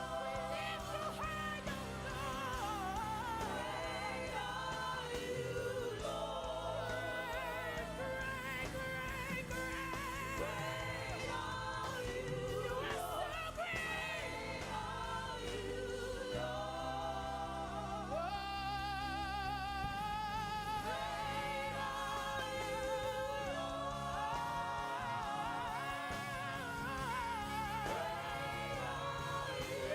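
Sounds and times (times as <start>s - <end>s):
singers with vibrato: 0.0s - 29.9s.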